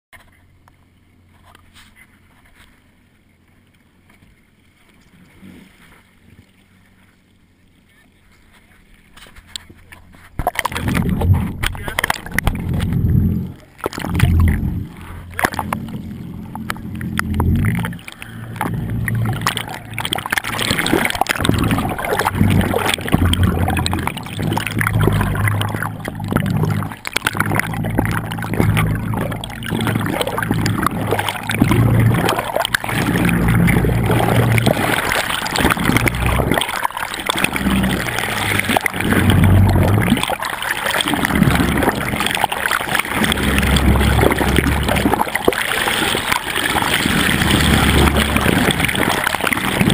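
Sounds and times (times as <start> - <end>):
uneven low rumble: 0.2 - 49.9
underwater gurgling and splashing: 9.0 - 49.9.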